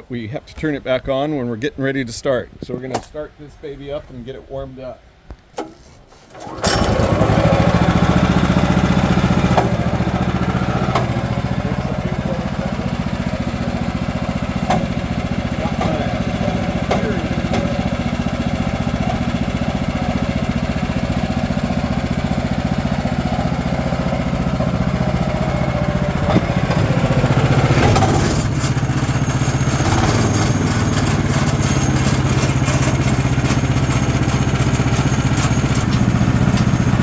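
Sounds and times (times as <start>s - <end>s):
sawmill engine running: 6.3s - 37.0s.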